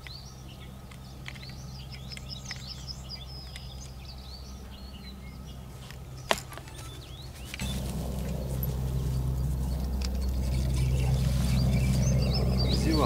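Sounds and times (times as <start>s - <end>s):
songbirds chirping and singing: 0.0s - 13.0s
steady low rumble: 0.0s - 13.0s.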